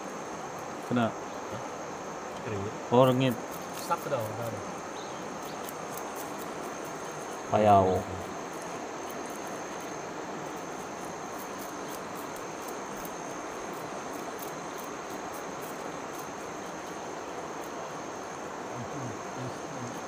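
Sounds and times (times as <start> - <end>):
insect buzzing: 0.0 - 20.0.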